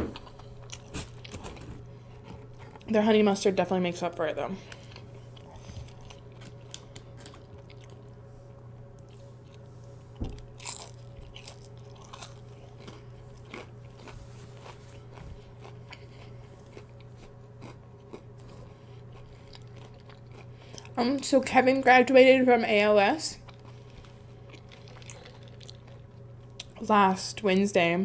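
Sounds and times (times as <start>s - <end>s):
chewing crunchy food: 0.1s - 3.0s, 4.6s - 21.4s, 23.4s - 26.8s.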